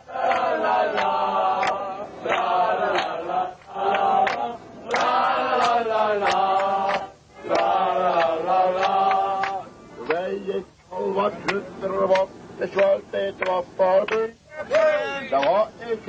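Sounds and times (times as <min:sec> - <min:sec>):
men singing together: 0:00.0 - 0:16.0.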